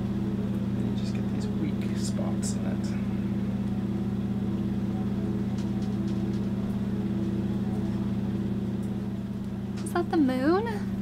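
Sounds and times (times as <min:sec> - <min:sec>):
generator humming: 0:00.0 - 0:11.0.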